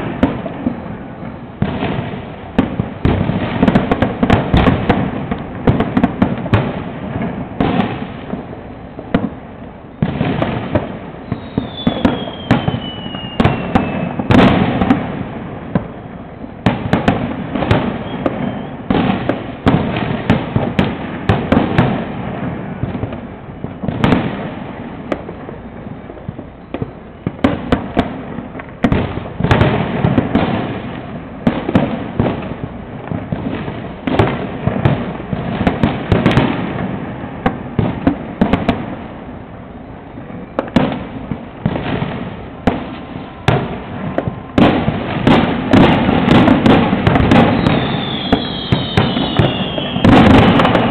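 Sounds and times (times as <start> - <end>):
falling firework whistle: 0.0 - 36.9, 38.4 - 50.9
fireworks cracking and banging: 0.0 - 50.9.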